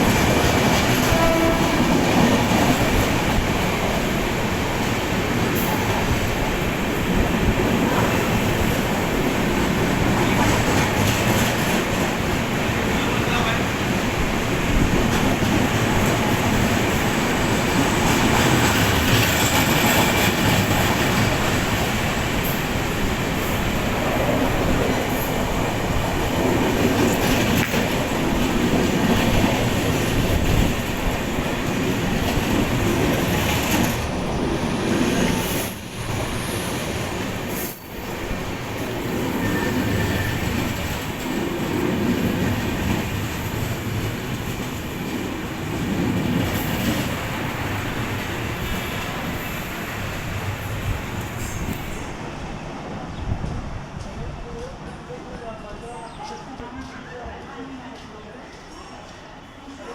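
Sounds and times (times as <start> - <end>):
train coaches clattering: 0.0 - 59.9
train wheels rumbling on rail: 0.0 - 59.9.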